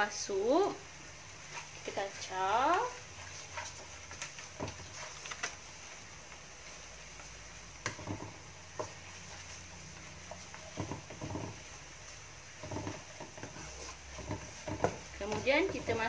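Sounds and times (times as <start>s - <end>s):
wooden spatula scraping a wok: 0.0s - 16.0s.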